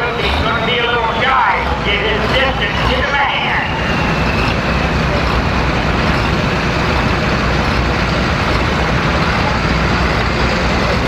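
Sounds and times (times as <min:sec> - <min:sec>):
tractor diesel engine rumbling: 0:00.0 - 0:11.0.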